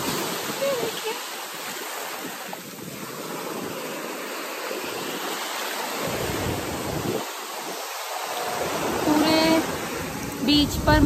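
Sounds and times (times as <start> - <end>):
waves breaking on a beach: 0.0 - 11.0
wind buffeting microphone: 0.0 - 11.0.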